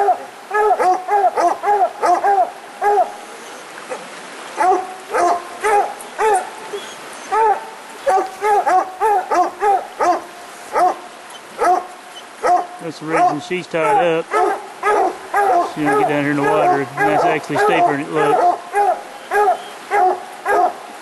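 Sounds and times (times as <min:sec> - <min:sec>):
hounds barking: 0:00.0 - 0:20.8.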